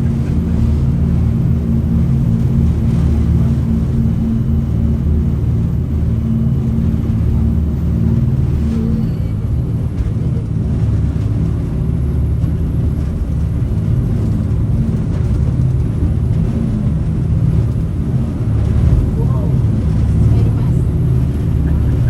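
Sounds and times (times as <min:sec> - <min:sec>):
boat engines droning: 0:00.0 - 0:22.0.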